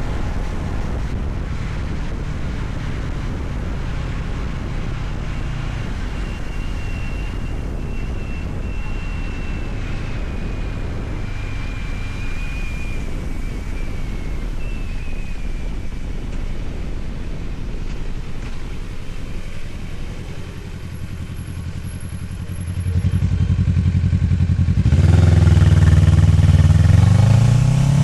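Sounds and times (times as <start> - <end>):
motorcycle engine running: 0.0 - 28.0
thin whistling tone: 0.0 - 28.0
wind rush over microphone: 0.0 - 28.0.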